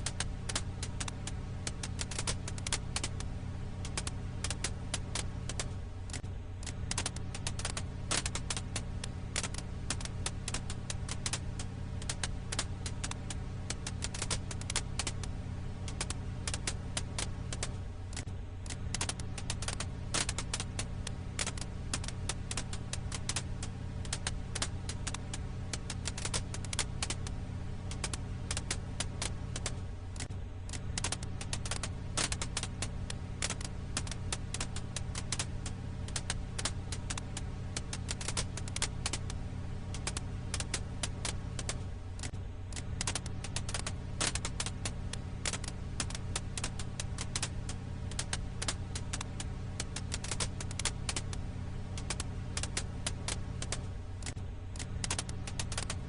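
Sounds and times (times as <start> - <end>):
campfire crackling: 0.0 - 56.0
steady low hum: 0.0 - 56.0.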